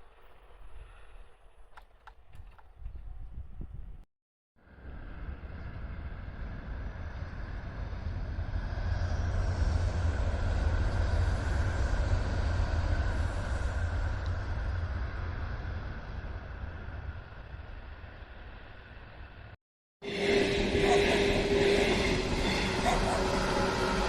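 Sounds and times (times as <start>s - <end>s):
train rumbling past: 4.6s - 24.0s.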